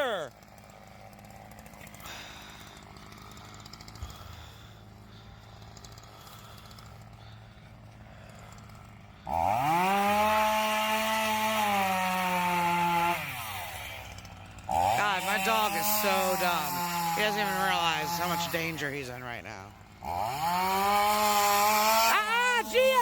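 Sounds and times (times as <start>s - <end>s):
chainsaw idling and revving: 0.0s - 23.0s.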